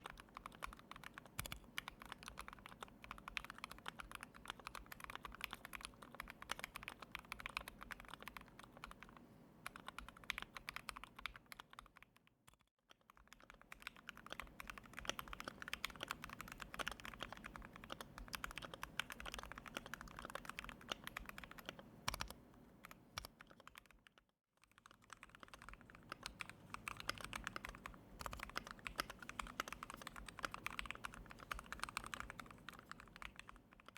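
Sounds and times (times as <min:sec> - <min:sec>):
fast mechanical keyboard typing: 0:00.0 - 0:33.9.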